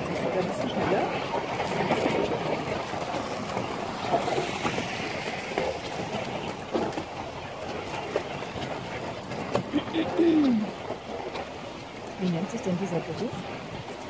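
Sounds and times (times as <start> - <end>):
toboggan runners scraping asphalt: 0.0 - 14.0.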